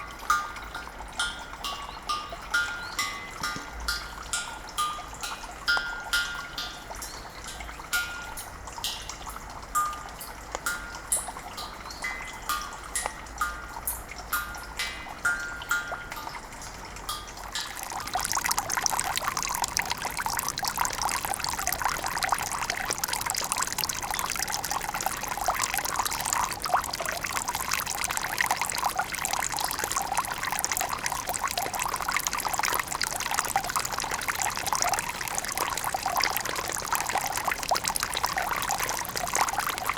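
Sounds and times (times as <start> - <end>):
bell-like water drop tones: 0.0 - 39.9
pouring trickling water: 0.0 - 39.9.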